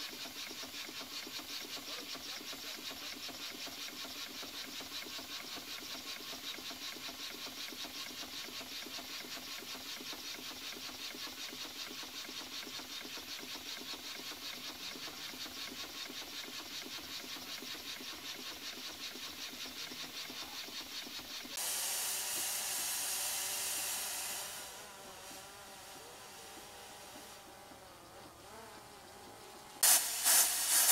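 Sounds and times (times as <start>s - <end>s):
steam engine exhaust beat: 0.0s - 27.8s, 29.8s - 30.9s
steam hissing: 0.0s - 27.8s, 29.8s - 30.9s.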